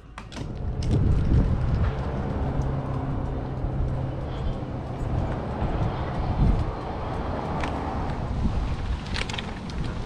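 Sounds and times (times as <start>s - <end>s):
street traffic: 0.0s - 10.0s
vehicle engine low hum: 0.0s - 10.0s
wind rumbling on microphone: 0.3s - 10.0s.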